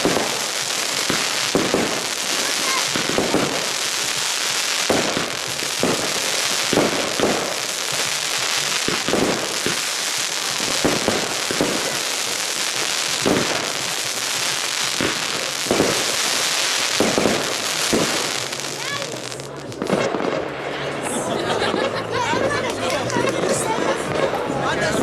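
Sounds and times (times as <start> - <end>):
crackling hiss of fireworks: 0.0 - 25.0.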